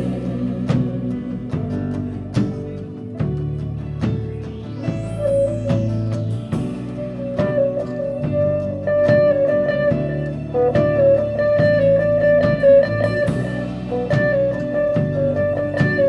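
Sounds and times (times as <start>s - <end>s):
bass guitar: 0.0s - 16.0s
drum kit and cymbals: 0.0s - 16.0s
electric guitar: 0.0s - 16.0s.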